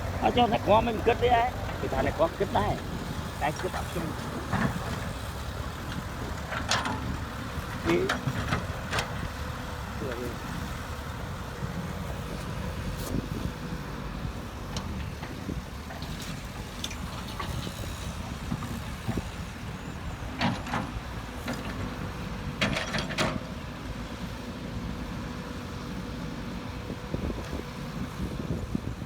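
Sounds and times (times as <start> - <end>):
heavy machinery engine rumble: 0.0 - 29.0.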